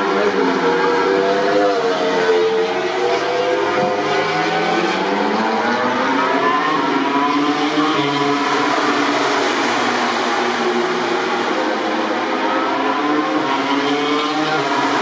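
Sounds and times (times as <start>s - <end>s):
race motorcycle engines at high revs: 0.0s - 15.0s.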